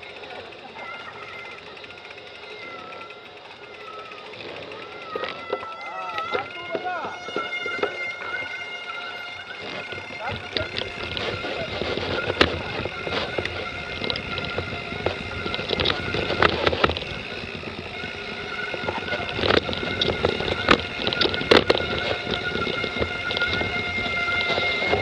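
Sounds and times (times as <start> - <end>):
bike knocking and rattling: 0.0 - 25.0
bike tyres rolling on dirt: 0.0 - 25.0.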